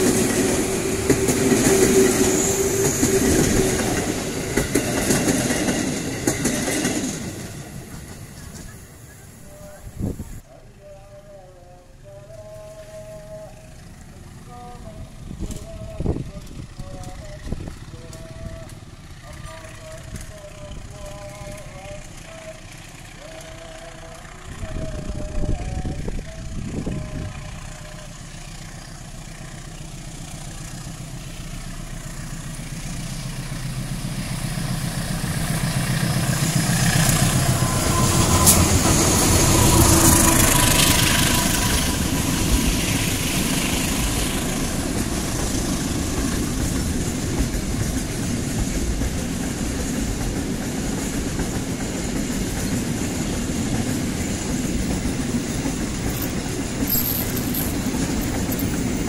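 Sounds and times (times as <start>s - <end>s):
diesel locomotive engine: 0.0s - 59.0s
freight wagons rumbling on rails: 0.0s - 59.0s.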